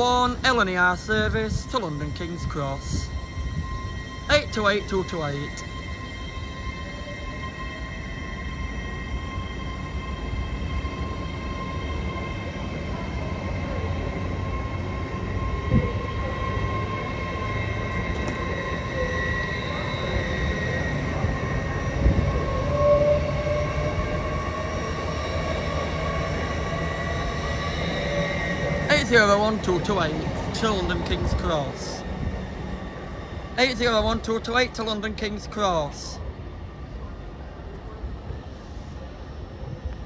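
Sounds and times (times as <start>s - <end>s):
train rumble and whine: 0.0s - 40.0s.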